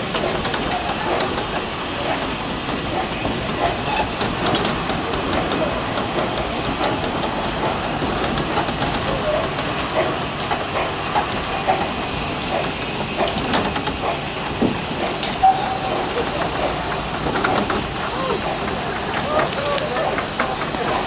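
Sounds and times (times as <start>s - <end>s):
carriages knocking and clanking: 0.0s - 21.0s
steam hissing: 0.0s - 21.0s.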